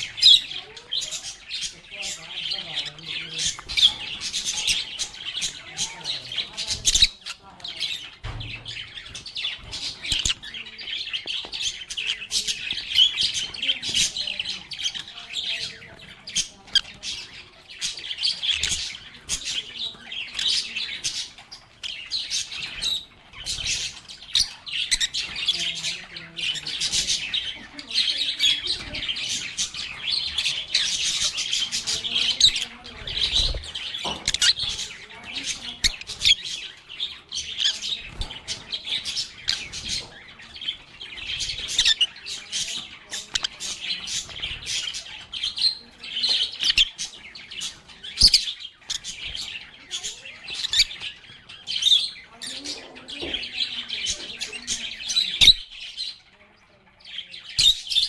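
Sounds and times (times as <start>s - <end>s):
lovebirds chattering: 0.0s - 58.0s.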